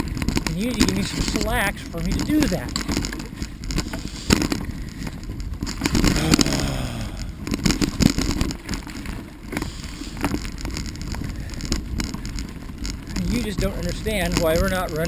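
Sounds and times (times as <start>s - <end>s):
bicycle rattling over rough trail: 0.0s - 15.0s.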